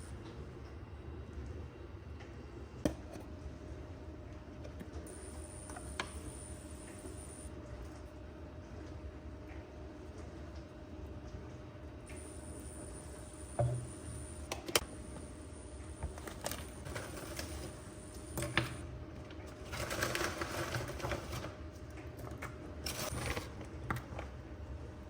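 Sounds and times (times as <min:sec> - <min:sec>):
faint steady hum: 0:00.0 - 0:20.3.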